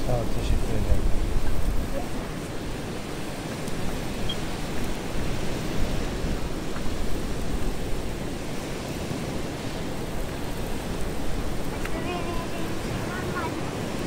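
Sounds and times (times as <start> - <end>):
rushing sea: 0.0 - 14.0
stormy wind: 0.0 - 14.0
wind buffeting microphone: 0.0 - 14.0.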